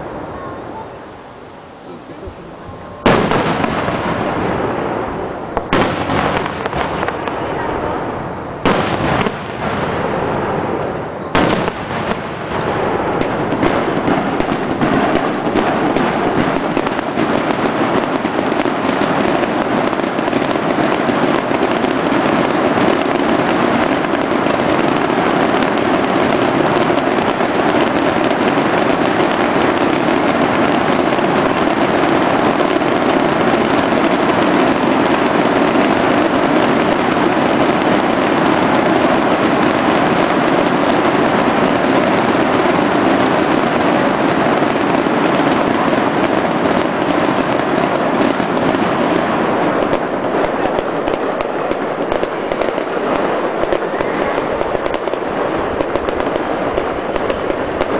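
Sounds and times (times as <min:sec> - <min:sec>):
firework crackle: 0:00.0 - 0:57.9.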